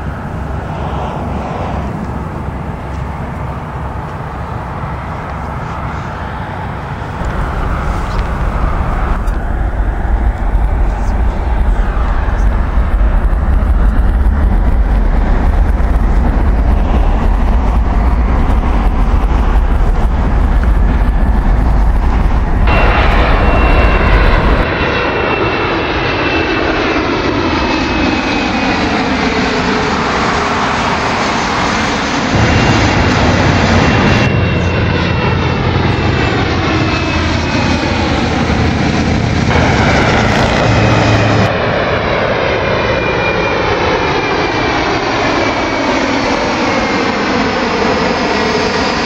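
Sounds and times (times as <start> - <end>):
jet airliners passing overhead: 0.0 - 49.0.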